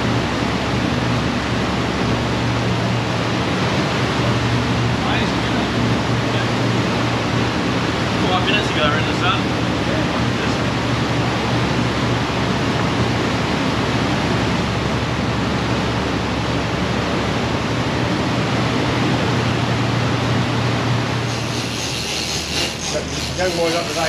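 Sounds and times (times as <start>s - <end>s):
wind and water rushing: 0.0s - 21.6s
boat engine drone: 0.0s - 24.0s.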